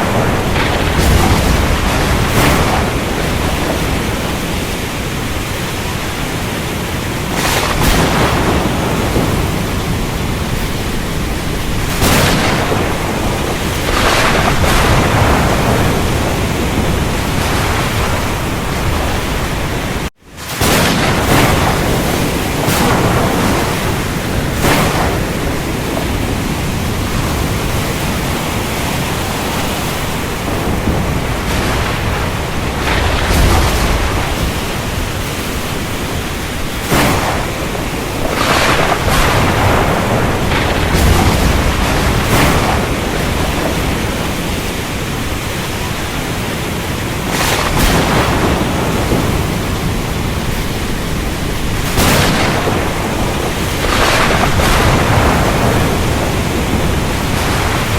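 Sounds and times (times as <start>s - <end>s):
steady rain: 0.0s - 57.9s
thunder rumbling: 0.0s - 57.9s.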